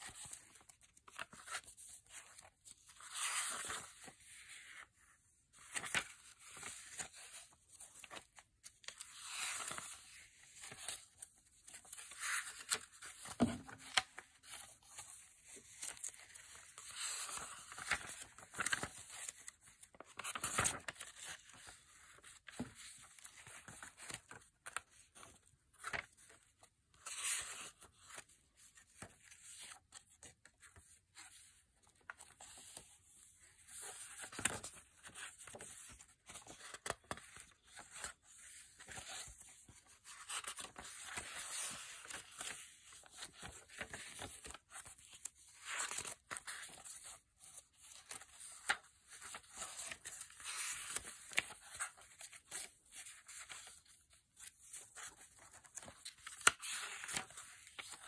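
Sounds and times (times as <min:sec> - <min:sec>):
paper pages turning: 0:00.0 - 0:58.0.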